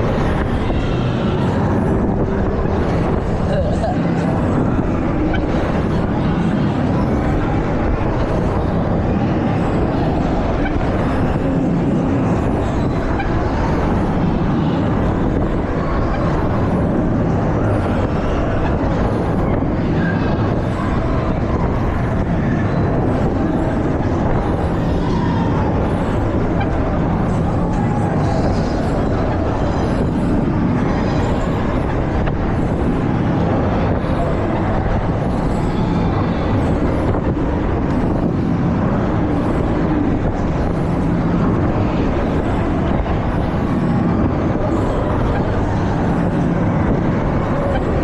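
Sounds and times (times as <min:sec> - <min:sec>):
loud mechanical rumble: 0:00.0 - 0:48.0.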